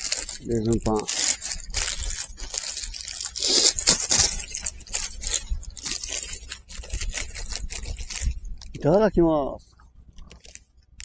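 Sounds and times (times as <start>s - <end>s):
plastic wrapper crinkling and tearing: 0.0s - 9.0s, 10.1s - 11.0s.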